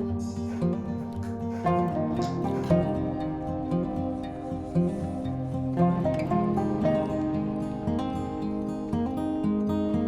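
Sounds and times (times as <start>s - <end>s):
gentle plucked string music with beat: 0.0s - 10.0s.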